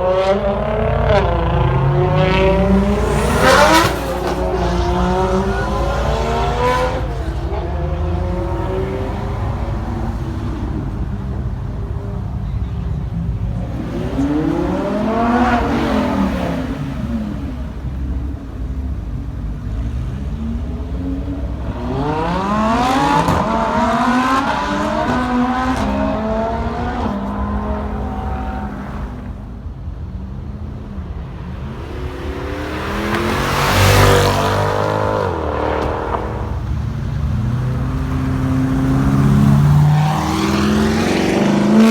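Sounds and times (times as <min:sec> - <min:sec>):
car engines idling: 0:00.0 - 0:41.9
car rushing past: 0:00.0 - 0:41.9
cars accelerating hard: 0:00.0 - 0:41.9.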